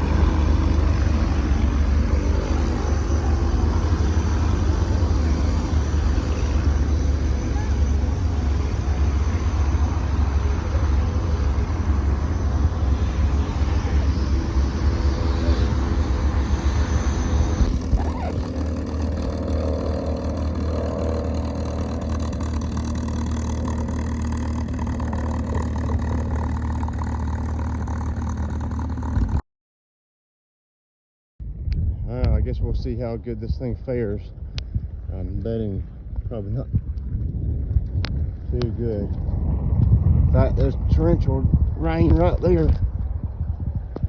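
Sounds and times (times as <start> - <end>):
engine low drone: 0.0 - 29.4, 31.4 - 44.0.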